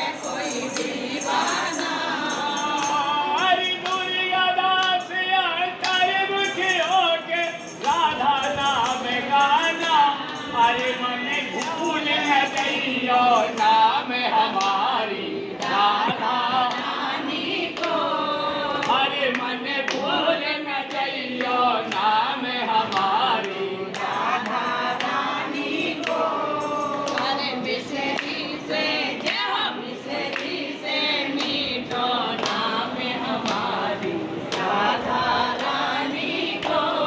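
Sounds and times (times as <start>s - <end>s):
group singing devotional song: 0.0s - 37.0s.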